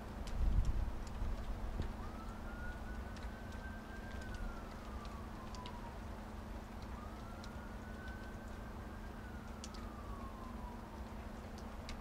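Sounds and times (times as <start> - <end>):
water drips: 0.0 - 12.0
siren wailing: 0.8 - 12.0.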